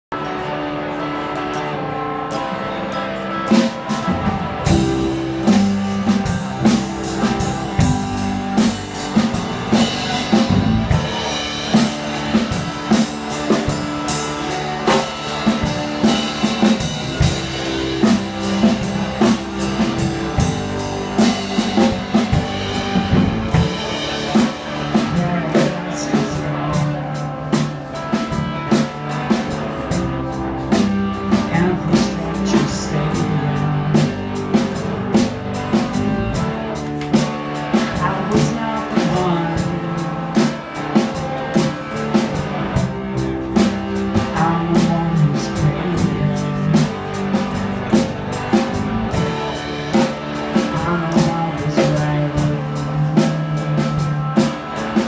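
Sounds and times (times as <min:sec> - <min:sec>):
amplified electric guitar: 0:00.1 - 0:55.0
drum kit: 0:00.1 - 0:55.0.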